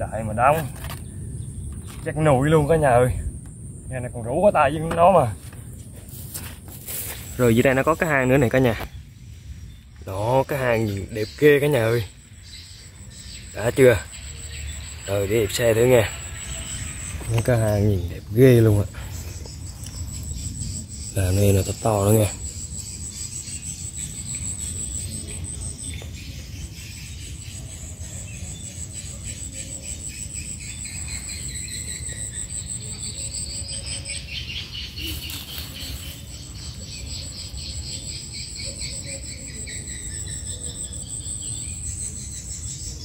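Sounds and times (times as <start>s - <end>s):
crickets trilling: 0.0s - 43.0s
faint chirping insects: 0.0s - 43.0s.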